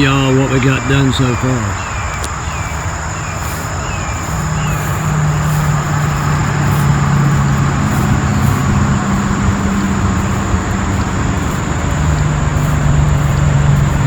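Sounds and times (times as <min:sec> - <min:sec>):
motor engine running: 0:00.0 - 0:14.0
rushing noise: 0:00.0 - 0:14.0.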